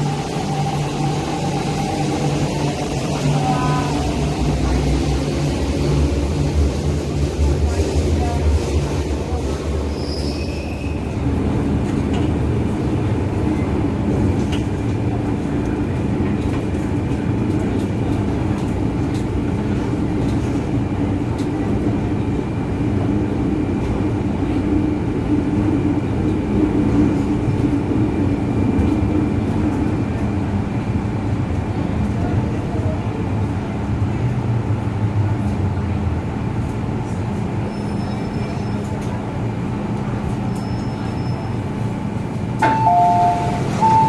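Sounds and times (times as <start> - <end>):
metro train rumbling: 0.0 - 44.0.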